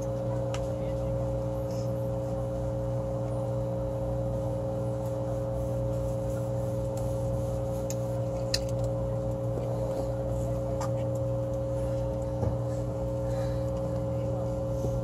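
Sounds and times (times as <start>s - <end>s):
hum of held tones: 0.0s - 15.0s.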